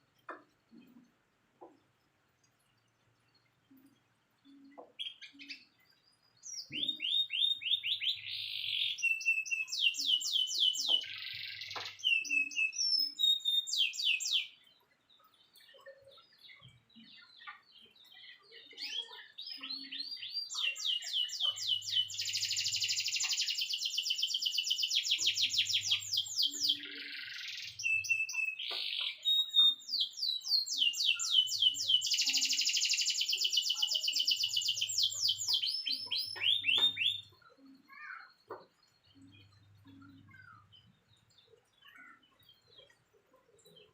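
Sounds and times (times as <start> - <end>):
canary chirps: 0.0 - 43.9
canary singing trills: 2.9 - 43.9.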